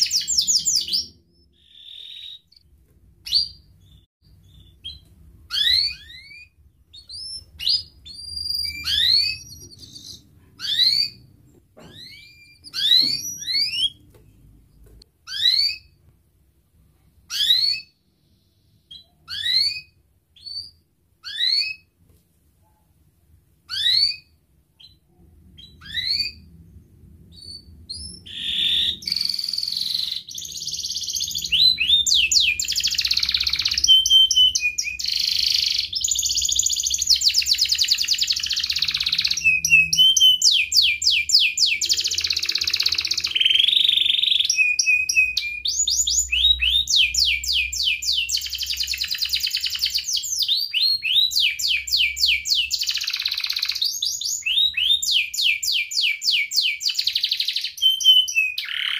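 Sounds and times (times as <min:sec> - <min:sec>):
canary singing: 0:00.0 - 0:14.1, 0:14.7 - 0:16.0, 0:17.3 - 0:21.9, 0:23.7 - 0:58.9.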